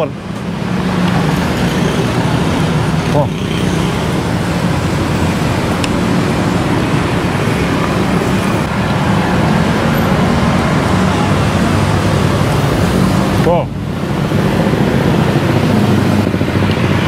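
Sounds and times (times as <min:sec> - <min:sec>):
motorbikes and cars passing: 0:00.0 - 0:17.0.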